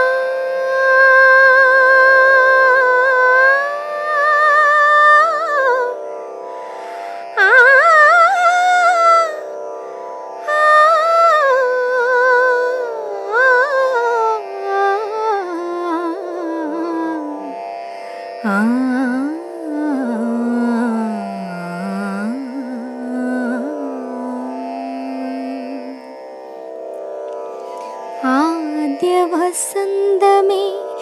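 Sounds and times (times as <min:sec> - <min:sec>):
woman singing wordless melody: 0:00.0 - 0:06.0, 0:07.3 - 0:09.5, 0:10.4 - 0:17.7, 0:18.4 - 0:26.2, 0:28.1 - 0:31.0.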